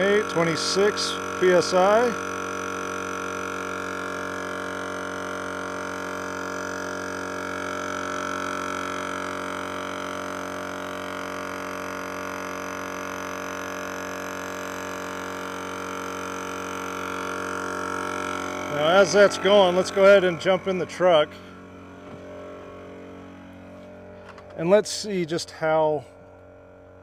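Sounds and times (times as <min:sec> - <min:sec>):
air compressor running: 0:00.0 - 0:27.0.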